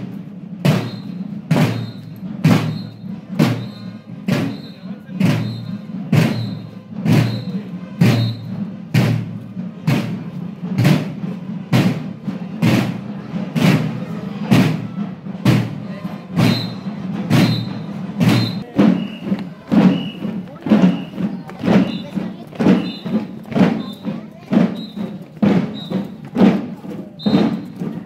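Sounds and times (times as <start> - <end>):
parade drum beating: 0.0 - 28.0.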